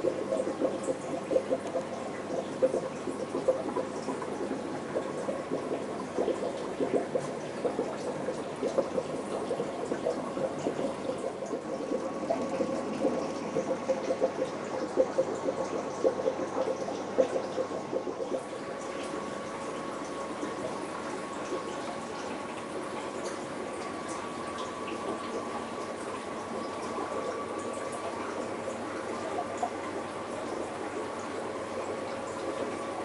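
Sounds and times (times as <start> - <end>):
aquarium water bubbling: 0.0 - 33.0
steady hum: 0.0 - 33.0.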